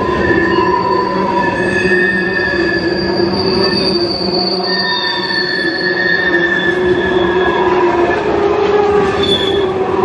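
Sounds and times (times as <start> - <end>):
high-pitched wheel squeals: 0.0 - 8.3, 9.1 - 9.7
train wheels rumbling on rails: 0.0 - 10.0.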